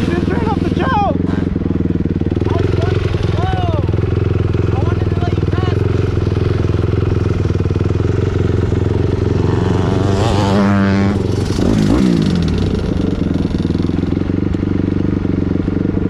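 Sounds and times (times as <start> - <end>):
dirt bike engine running: 0.0 - 16.0
dirt bike revving past: 0.0 - 16.0.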